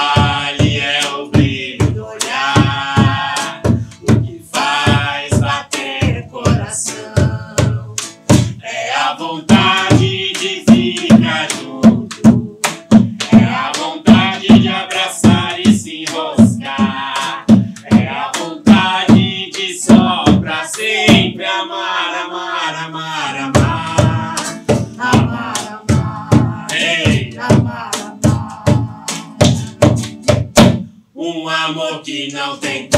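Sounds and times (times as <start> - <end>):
hand drum beating: 0.0 - 8.6, 9.5 - 21.4, 23.5 - 30.9
man and woman singing: 0.0 - 30.1, 31.2 - 32.9
acoustic guitar: 0.0 - 32.9.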